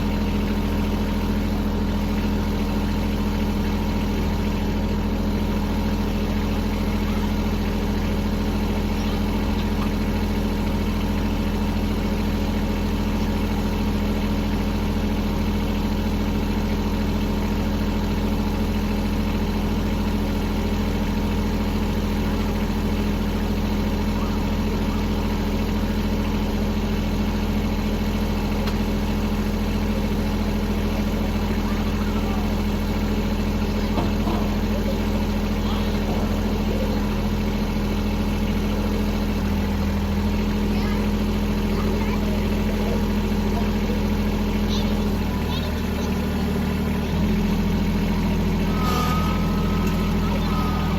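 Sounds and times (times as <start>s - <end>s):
tractor diesel engine idling: 0.0s - 50.9s.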